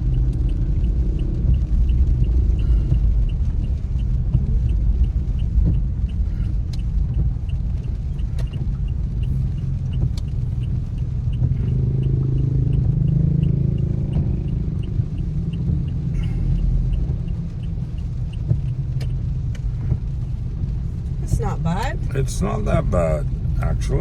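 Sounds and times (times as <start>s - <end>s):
car cabin road rumble: 0.0s - 24.0s
turn signal ticking: 0.0s - 24.0s.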